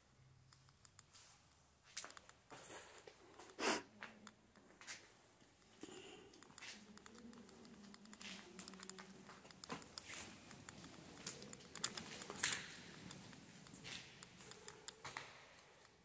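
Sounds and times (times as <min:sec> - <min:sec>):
light clicks and crackles: 0:00.5 - 0:02.5, 0:03.4 - 0:16.0.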